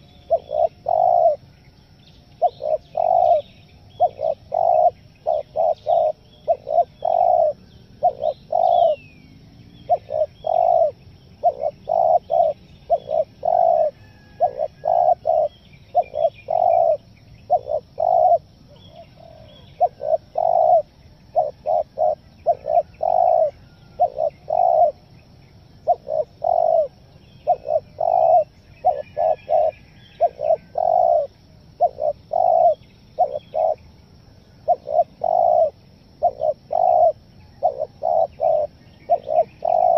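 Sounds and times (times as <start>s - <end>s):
dove cooing: 0.0s - 1.5s, 2.4s - 9.2s, 9.9s - 25.1s, 25.8s - 33.9s, 34.5s - 39.9s
small birds chirping: 0.0s - 39.9s.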